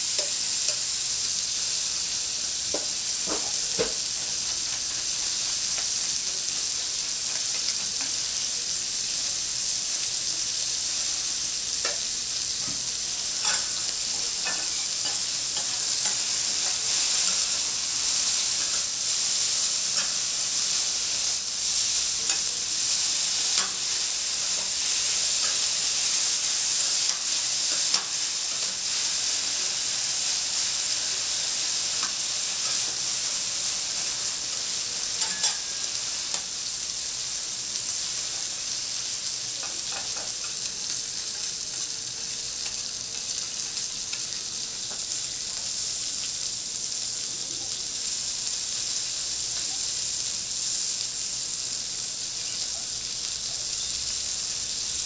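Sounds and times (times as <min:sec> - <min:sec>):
food sizzling on a griddle: 0:00.0 - 0:55.0.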